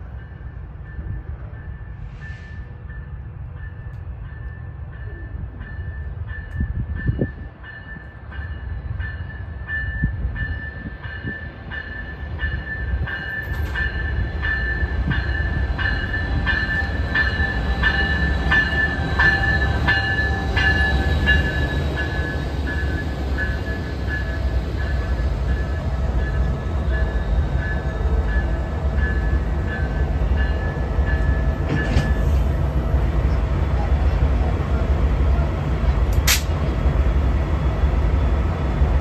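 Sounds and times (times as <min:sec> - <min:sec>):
locomotive bell ringing: 0:00.0 - 0:33.0
locomotive and wheels rumbling: 0:00.0 - 0:39.0.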